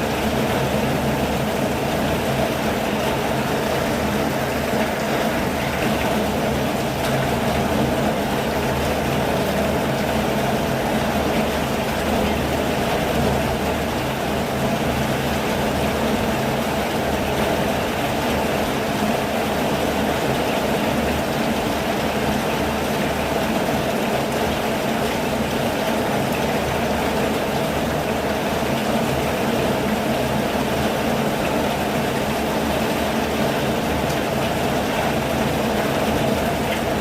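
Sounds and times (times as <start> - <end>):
steady rainfall: 0.0 - 37.0.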